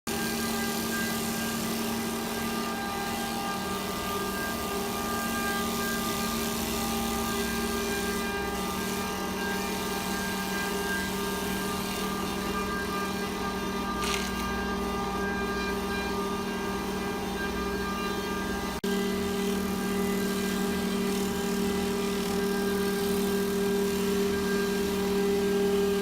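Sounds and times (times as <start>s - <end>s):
wood lathe motor hum: 0.1s - 26.0s.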